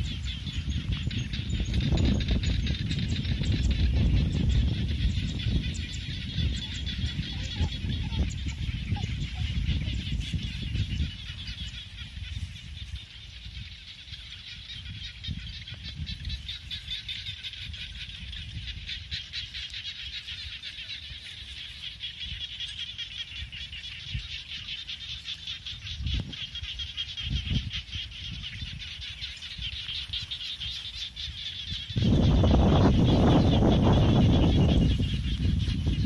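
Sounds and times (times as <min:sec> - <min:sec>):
high-pitched chorus of small animals: 0:00.0 - 0:36.0
wind rumble on microphone: 0:00.0 - 0:36.0.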